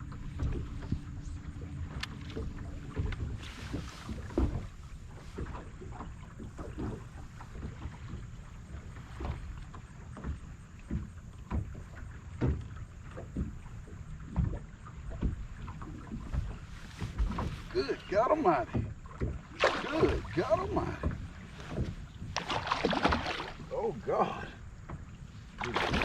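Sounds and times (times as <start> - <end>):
water slapping boat hull: 0.0 - 26.0.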